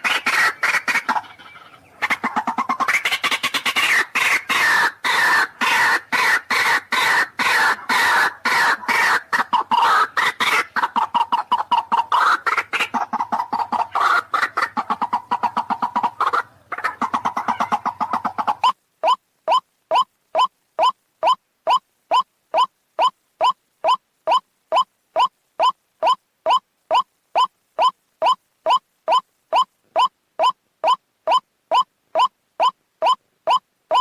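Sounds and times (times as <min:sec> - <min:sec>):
waterhen calling: 0:00.0 - 0:34.0.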